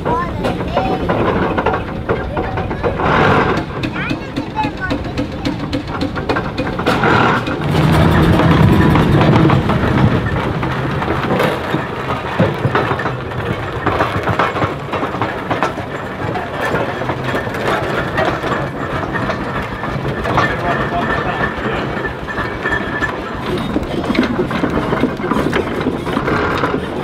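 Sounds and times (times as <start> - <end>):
low engine rumble: 0.0 - 27.0
steam engine clanking: 0.0 - 27.0.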